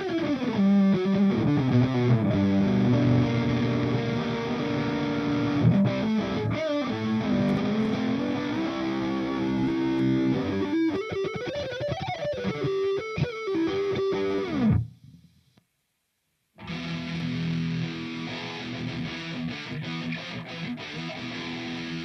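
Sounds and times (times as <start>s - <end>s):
electric guitar chords and bent notes: 0.0s - 14.9s, 16.6s - 22.0s.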